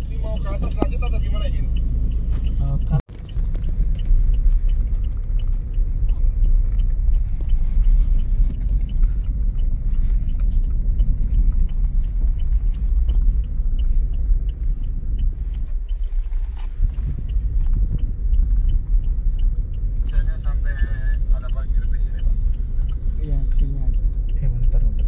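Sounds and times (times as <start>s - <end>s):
car tyres rumbling on dirt road: 0.0s - 25.0s.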